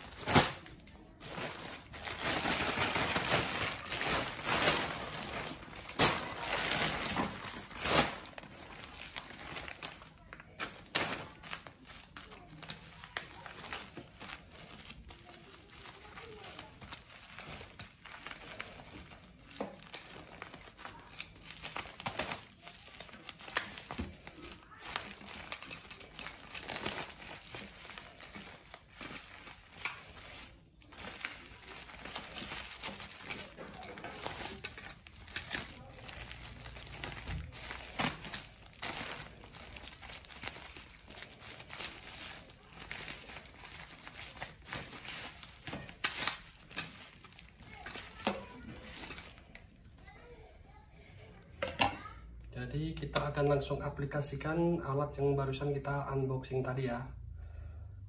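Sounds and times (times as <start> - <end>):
plastic bag crinkling: 0.0 - 50.2.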